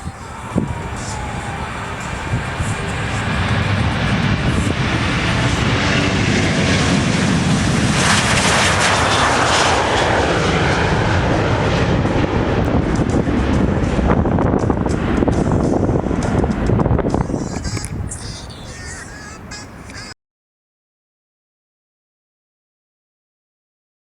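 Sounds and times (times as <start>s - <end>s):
jet engines passing: 0.0s - 20.1s.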